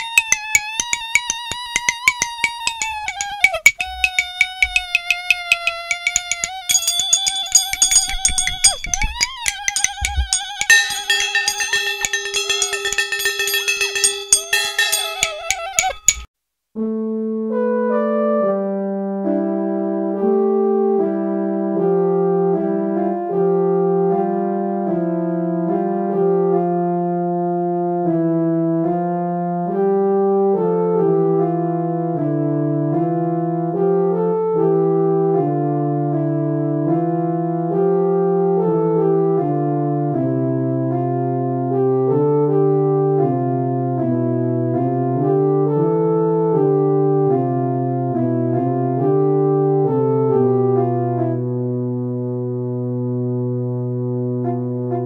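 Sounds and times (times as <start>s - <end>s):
instrumental keyboard music: 0.0s - 53.0s.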